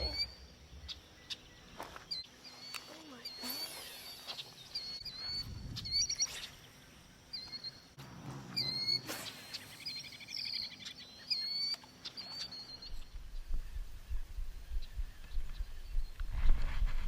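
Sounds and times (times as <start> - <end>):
songbird calling: 0.0 - 16.2.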